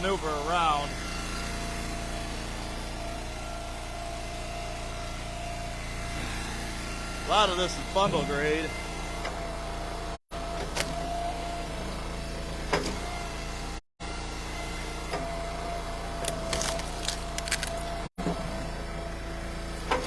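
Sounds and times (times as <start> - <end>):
splitter whine: 0.0 - 20.0
wood splitter engine running: 0.0 - 20.0.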